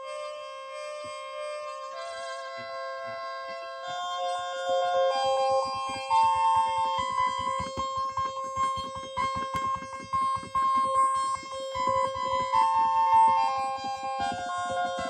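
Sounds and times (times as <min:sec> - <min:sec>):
keyboard melody over fast beat: 0:00.0 - 0:15.0.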